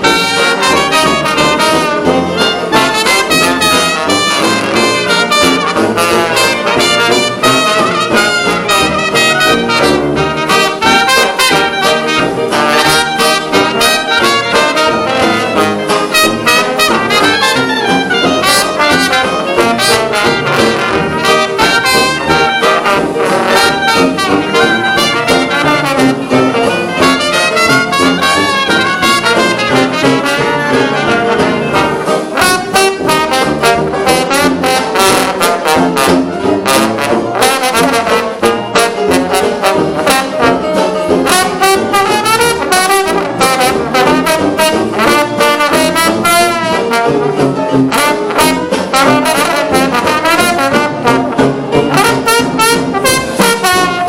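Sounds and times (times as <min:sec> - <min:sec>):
jazz band playing: 0:00.0 - 0:54.0
trombone: 0:00.0 - 0:54.0
trumpet: 0:00.0 - 0:54.0.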